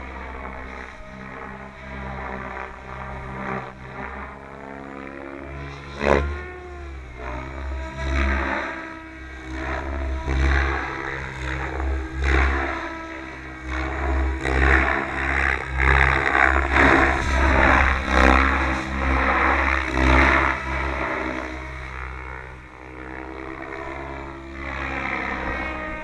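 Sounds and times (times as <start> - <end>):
model helicopter rotor: 0.0 - 26.0.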